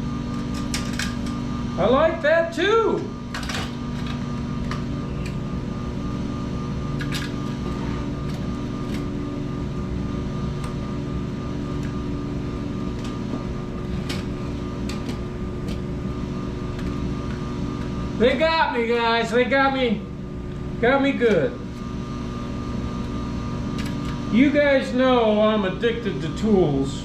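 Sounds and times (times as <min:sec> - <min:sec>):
mechanical hum with tones: 0:00.0 - 0:27.0.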